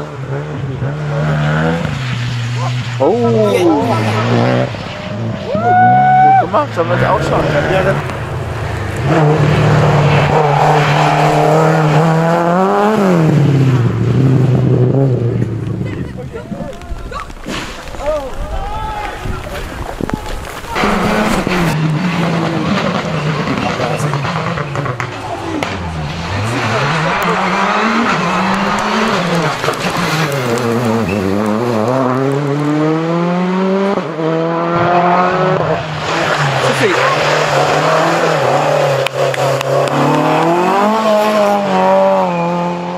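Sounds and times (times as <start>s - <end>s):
rally car accelerating past: 0.0s - 15.9s, 20.8s - 42.9s.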